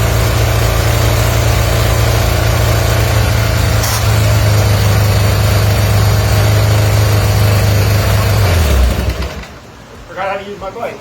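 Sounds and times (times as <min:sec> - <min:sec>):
motorcycle boxer engine running: 0:00.0 - 0:09.6.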